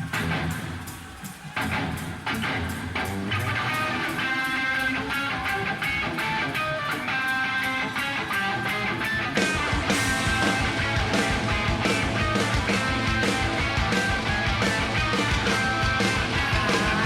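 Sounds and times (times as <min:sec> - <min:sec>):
hard rock guitar riff: 0:00.0 - 0:17.0
steady drum beat: 0:00.0 - 0:17.0.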